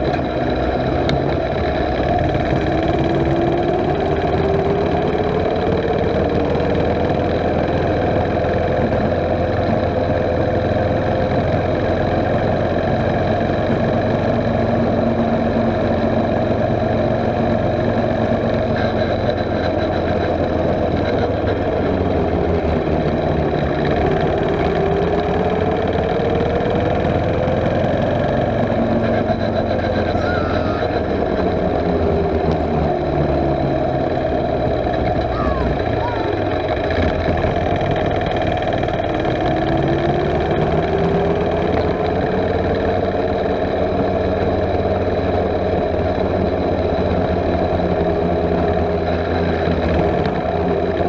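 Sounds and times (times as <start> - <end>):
mini bike engine running: 0.0 - 51.0.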